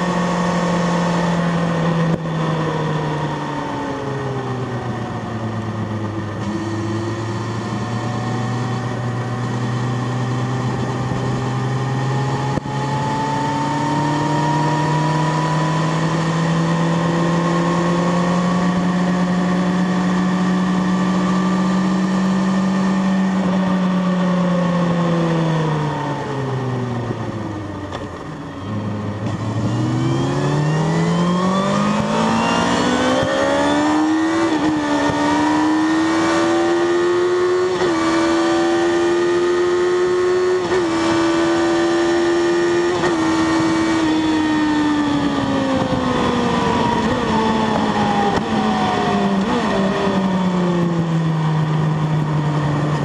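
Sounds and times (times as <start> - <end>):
sport motorcycle engine revving: 0.0 - 53.0.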